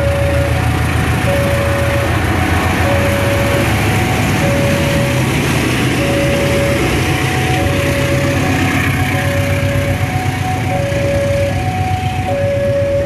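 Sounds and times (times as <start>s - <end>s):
level crossing alarm: 0.0s - 13.0s
train rumbling past: 0.0s - 13.0s.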